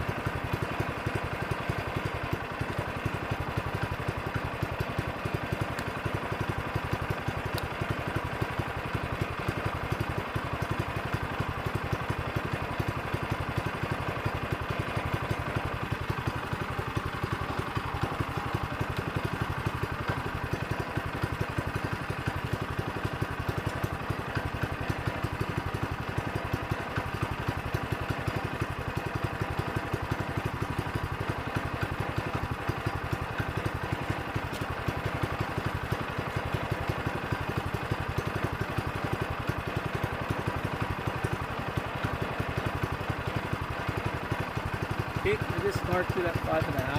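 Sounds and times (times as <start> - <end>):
small gasoline engine idling: 0.0 - 46.9.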